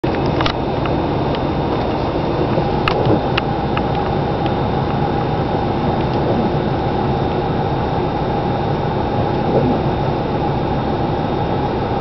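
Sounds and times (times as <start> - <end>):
blower fan: 0.0 - 12.0
diesel pickup engine idling: 0.0 - 12.0.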